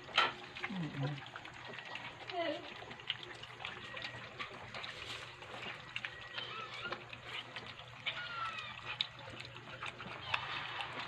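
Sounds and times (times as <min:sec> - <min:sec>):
puppies lapping food from metal bowl: 0:00.0 - 0:11.0.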